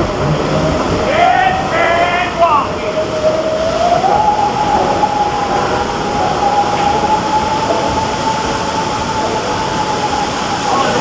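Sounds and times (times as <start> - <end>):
ride machinery whine: 0.0 - 11.0
rushing rumbling water: 0.0 - 11.0.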